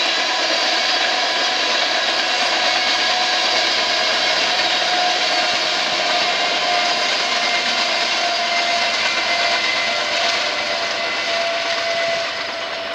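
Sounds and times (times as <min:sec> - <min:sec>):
distant freight train rolling past: 0:00.0 - 0:12.9.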